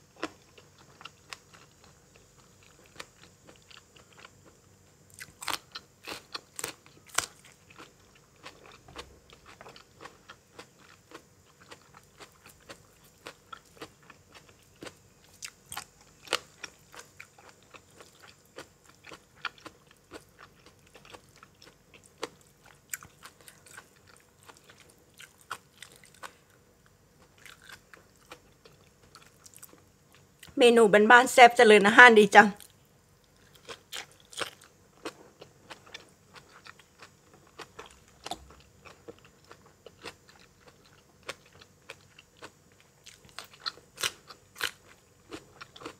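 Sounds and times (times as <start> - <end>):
person chewing crunchy food: 0.0 - 30.6, 32.6 - 45.9.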